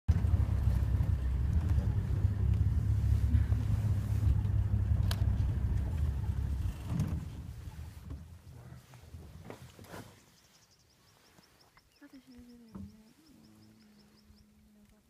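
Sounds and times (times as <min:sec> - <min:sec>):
vehicle engine rumbling: 0:00.1 - 0:15.0.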